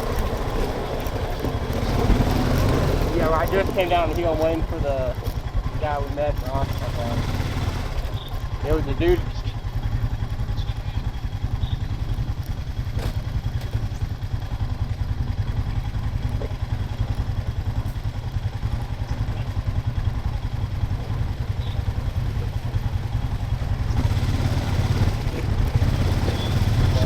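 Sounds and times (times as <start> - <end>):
atv engine idling: 0.0 - 27.0.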